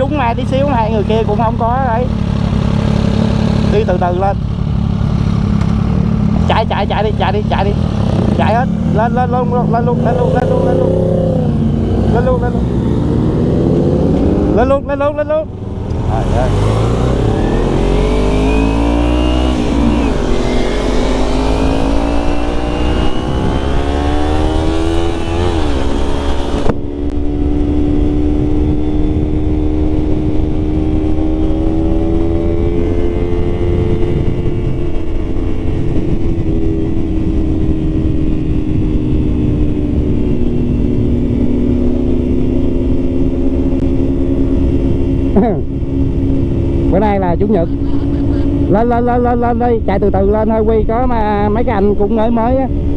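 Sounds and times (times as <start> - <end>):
motorcycle engine accelerating: 0.0 - 52.9
wind rumble on microphone: 0.0 - 52.9.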